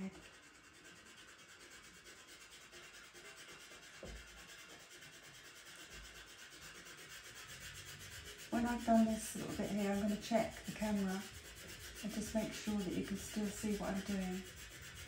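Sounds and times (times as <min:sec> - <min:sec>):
pencil scratching on paper: 0:00.0 - 0:15.0.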